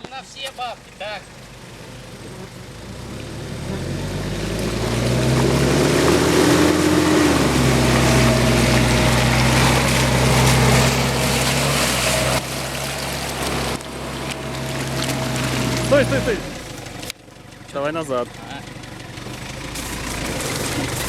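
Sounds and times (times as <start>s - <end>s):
car engine pulling under load: 0.0s - 21.0s
tyres churning mud and water: 0.0s - 21.0s.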